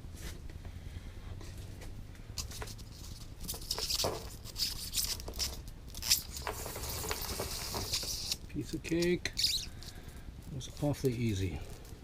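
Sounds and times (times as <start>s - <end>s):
scraping and rustling: 1.4s - 12.0s.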